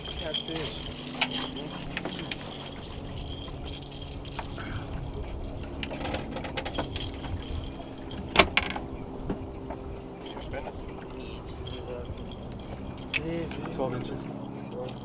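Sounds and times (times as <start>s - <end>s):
fishing gear clinking and rattling: 0.0s - 15.0s
low steady hum: 0.0s - 15.0s.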